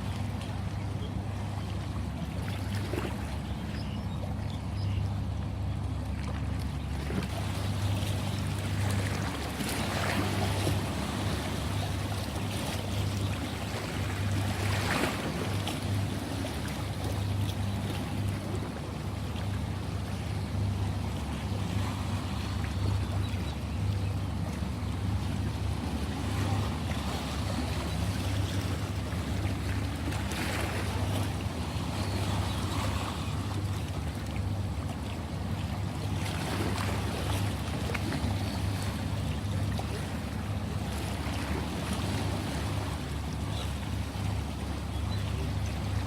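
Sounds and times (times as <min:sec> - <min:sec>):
ocean waves breaking: 0:00.0 - 0:46.0
steady low hum: 0:00.0 - 0:46.0.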